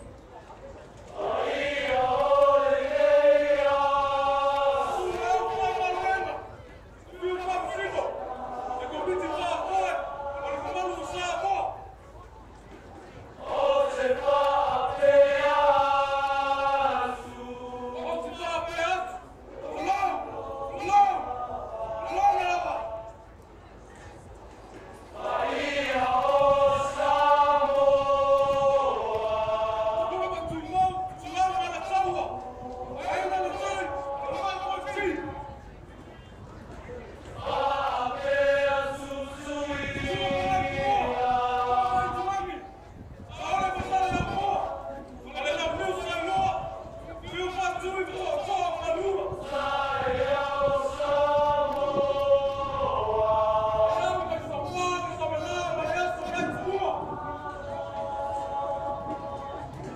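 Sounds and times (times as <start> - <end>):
male voices singing in harmony: 1.1 - 6.5, 7.1 - 11.8, 13.4 - 23.4, 25.1 - 35.6, 37.2 - 59.9
men chanting together: 1.2 - 6.5, 7.2 - 11.8, 13.4 - 23.2, 25.2 - 35.6, 37.4 - 42.7, 43.3 - 59.9.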